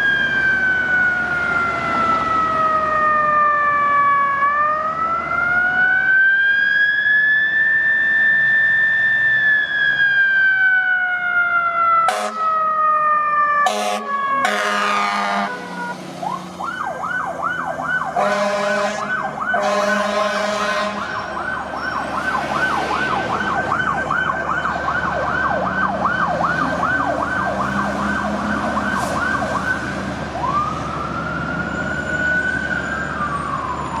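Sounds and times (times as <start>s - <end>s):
emergency vehicle siren: 0.0s - 34.0s.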